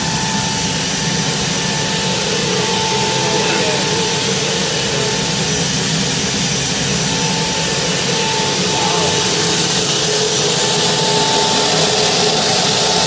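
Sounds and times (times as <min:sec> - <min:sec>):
gas turbine engine idling: 0:00.0 - 0:13.0.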